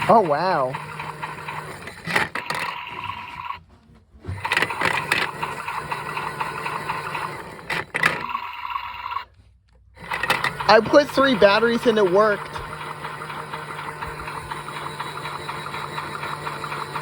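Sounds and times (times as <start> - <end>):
washing machine motor whirring: 0.0 - 17.0.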